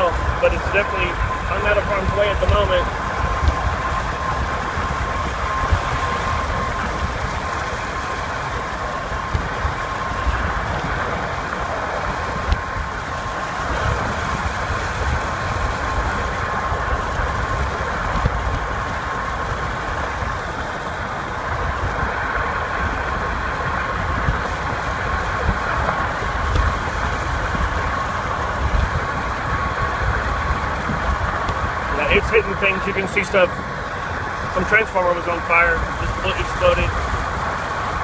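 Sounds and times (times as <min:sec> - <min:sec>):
car road and engine noise: 0:00.0 - 0:38.0
thin steady whine: 0:00.0 - 0:38.0.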